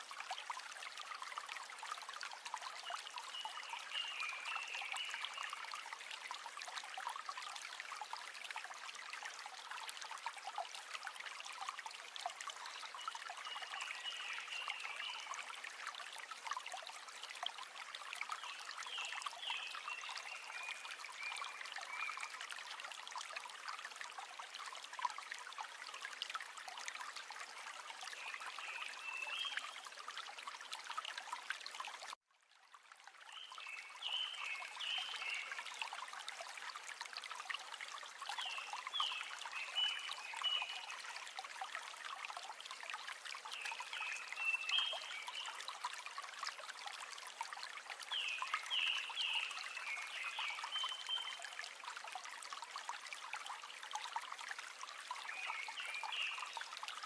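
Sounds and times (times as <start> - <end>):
river water trickling: 0.0 - 57.0.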